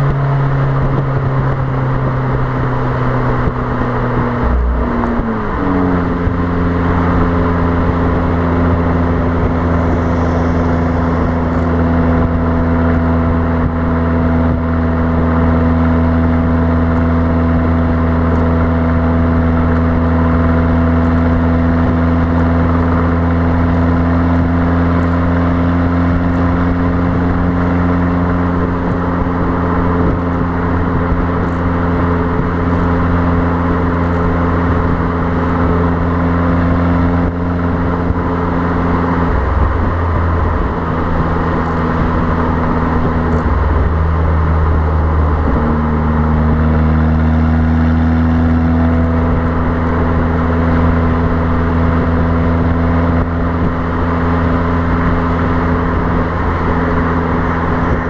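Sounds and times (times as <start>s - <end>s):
car engine droning: 0.0s - 58.0s
wind noise on microphone: 0.0s - 58.0s.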